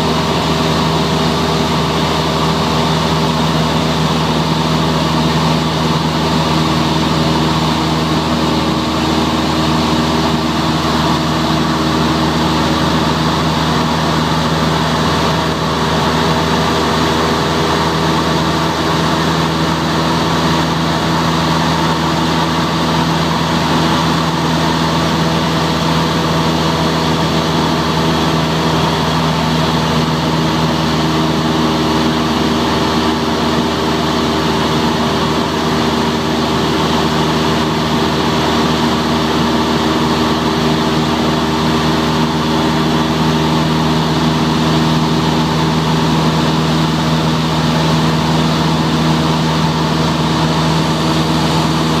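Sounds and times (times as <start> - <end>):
propeller plane engine droning: 0.0 - 52.0.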